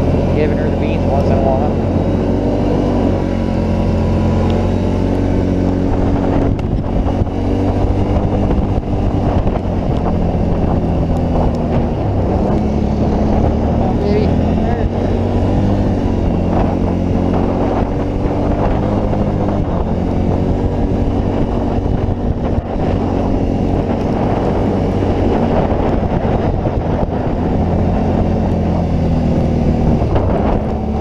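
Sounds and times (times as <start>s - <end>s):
atv engine running: 0.0s - 31.0s
wind noise on microphone: 0.0s - 31.0s.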